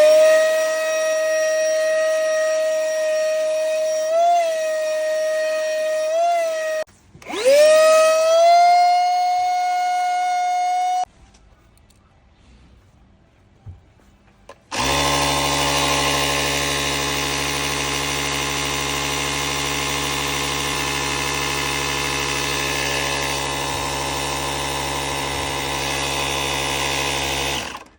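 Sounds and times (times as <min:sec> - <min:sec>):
electric motor running steadily: 0:00.0 - 0:11.1, 0:14.7 - 0:27.9.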